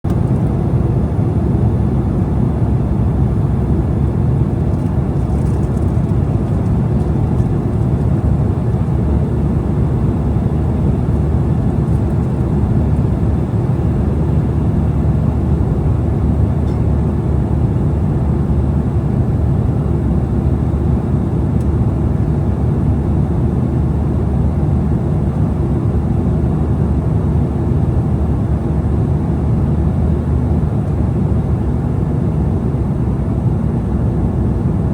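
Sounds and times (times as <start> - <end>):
jet cabin engine rumble: 0.0 - 34.9.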